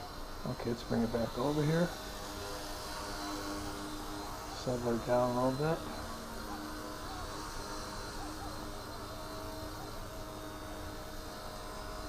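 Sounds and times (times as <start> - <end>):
toy helicopter whine: 0.0 - 12.0.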